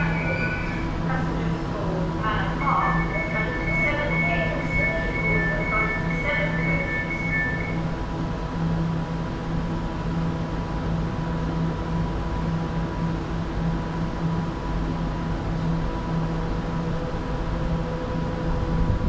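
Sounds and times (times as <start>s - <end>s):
electric train rumbling: 0.0s - 19.0s
pulsing low hum: 0.0s - 19.0s.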